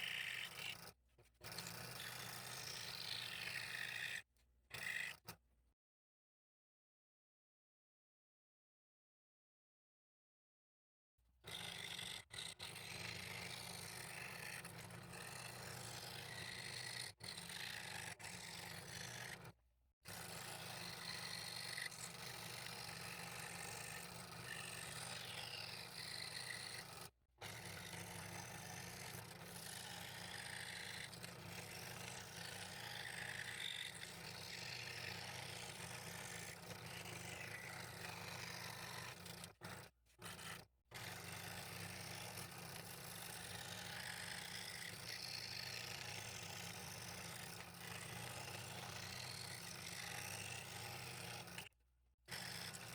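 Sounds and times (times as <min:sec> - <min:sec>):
scroll saw cutting wood: 0:00.0 - 0:04.2, 0:11.5 - 0:51.7, 0:52.3 - 0:52.9.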